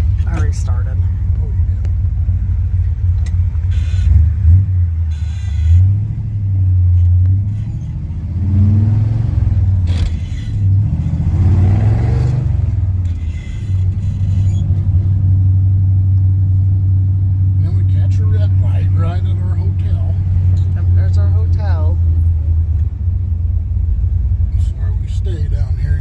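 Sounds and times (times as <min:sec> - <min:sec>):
car engine exhaust drone: 0:00.0 - 0:26.0.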